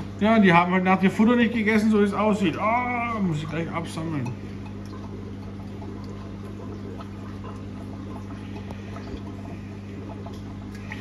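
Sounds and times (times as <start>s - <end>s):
aquarium pumps humming: 0.0s - 11.0s.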